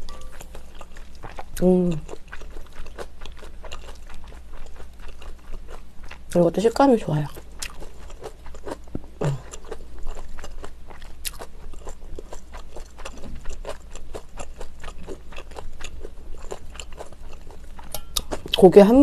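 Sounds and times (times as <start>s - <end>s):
close wet chewing: 0.3s - 6.4s, 7.2s - 18.7s.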